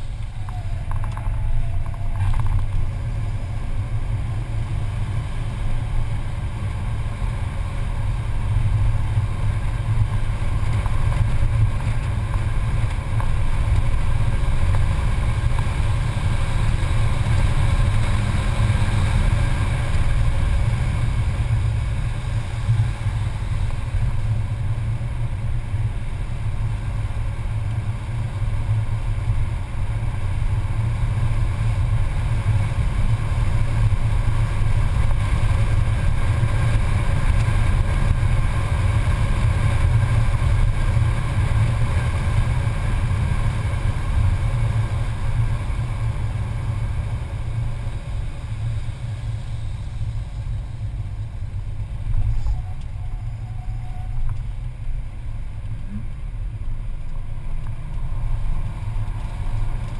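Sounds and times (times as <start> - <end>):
car engine running hard: 0.0 - 59.9
road and wind noise: 0.0 - 59.9.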